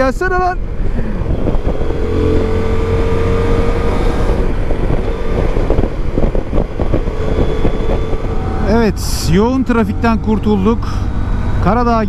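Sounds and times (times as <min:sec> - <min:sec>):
wind rumbling on microphone: 0:00.0 - 0:12.0
motorcycle engine running: 0:00.6 - 0:12.0.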